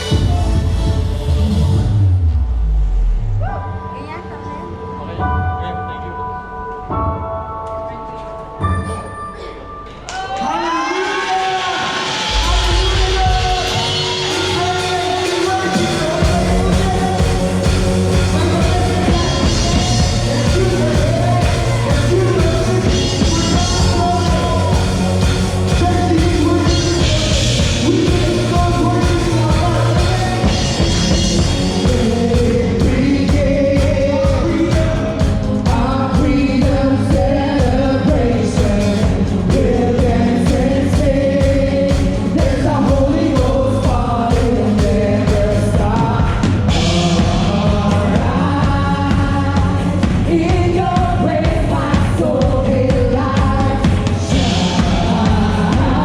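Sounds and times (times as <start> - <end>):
rock worship music with singing: 0.0 - 3.8, 9.9 - 56.0.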